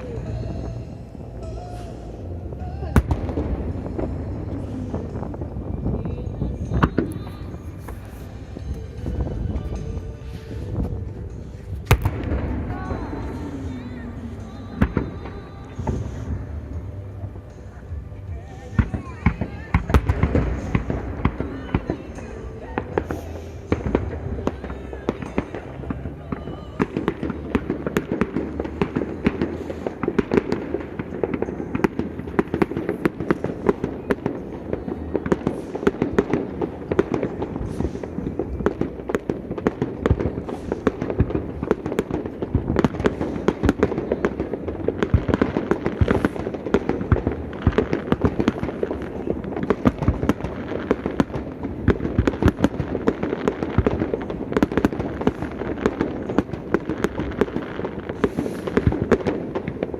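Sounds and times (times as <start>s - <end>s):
fireworks crackling and popping: 0.0s - 59.9s.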